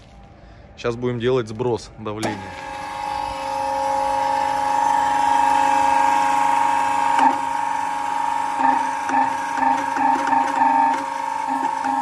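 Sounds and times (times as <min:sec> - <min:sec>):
hydraulic pump motor whine: 0:02.1 - 0:12.0
hydraulic pressure surges: 0:02.2 - 0:12.0.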